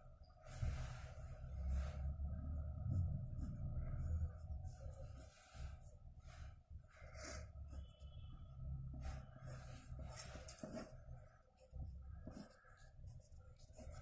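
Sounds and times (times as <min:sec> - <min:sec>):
steady low hum: 0:00.0 - 0:14.0
pencil scratching on paper: 0:02.6 - 0:14.0.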